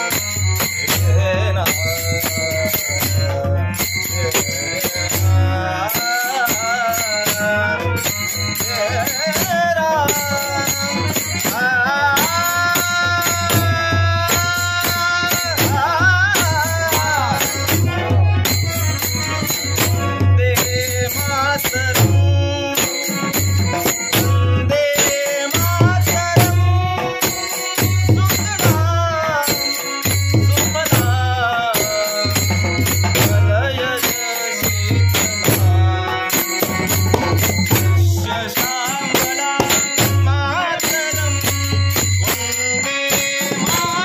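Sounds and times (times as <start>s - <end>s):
hand cymbals striking: 0.0s - 44.0s
jingling percussion: 0.0s - 44.0s
man singing: 0.0s - 44.0s.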